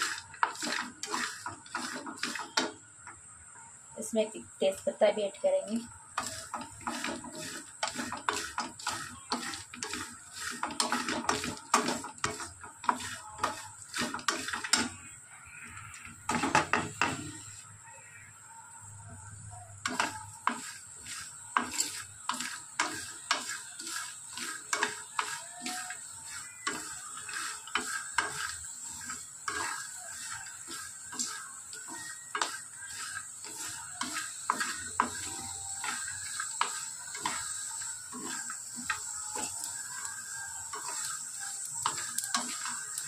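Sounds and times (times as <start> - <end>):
spatula scraping nuts in a pan: 0.0 - 3.4, 4.0 - 18.3, 19.4 - 43.0.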